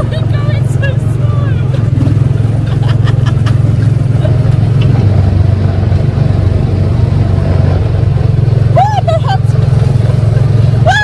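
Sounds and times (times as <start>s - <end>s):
small gasoline engine droning: 0.0s - 11.0s.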